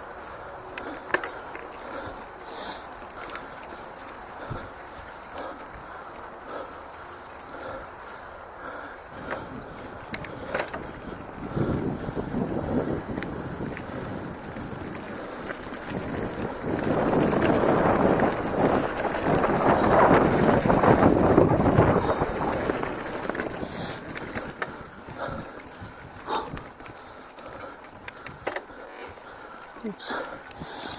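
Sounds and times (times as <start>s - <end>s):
bike rattling over bumps: 0.0s - 30.9s
bike tyre noise on dirt: 0.0s - 30.9s.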